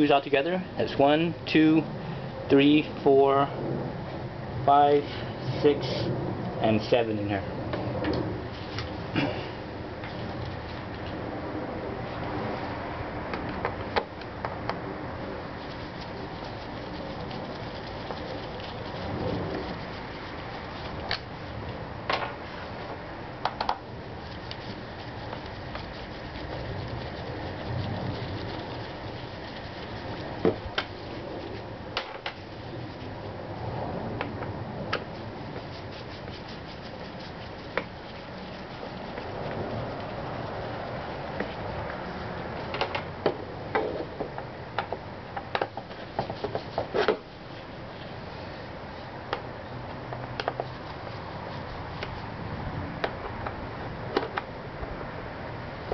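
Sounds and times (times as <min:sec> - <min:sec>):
low background noise: 0:00.0 - 0:55.9.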